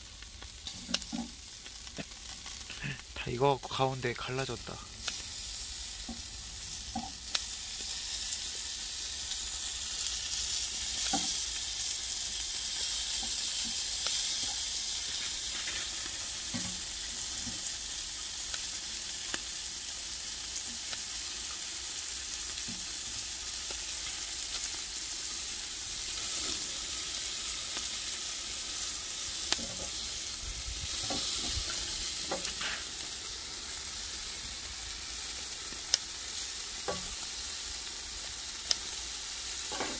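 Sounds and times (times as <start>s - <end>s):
fish sizzling on a grill: 0.0s - 39.9s.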